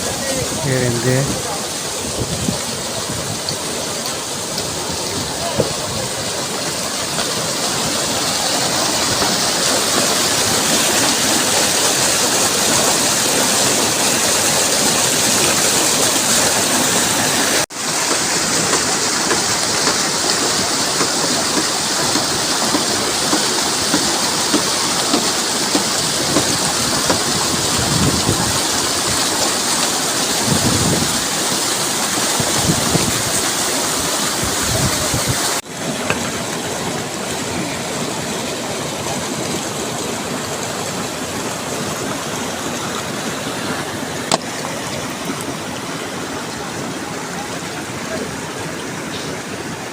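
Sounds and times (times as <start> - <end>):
mountain stream rushing: 0.0 - 49.9.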